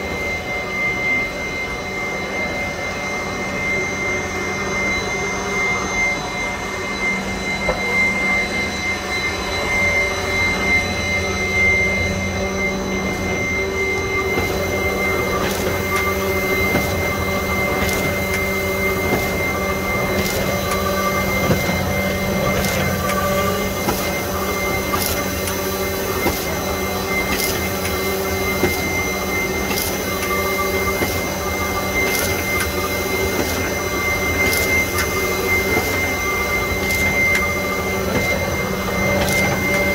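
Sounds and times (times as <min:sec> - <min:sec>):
high-pitched whine: 0:00.0 - 0:39.9
printing press humming: 0:00.0 - 0:39.9.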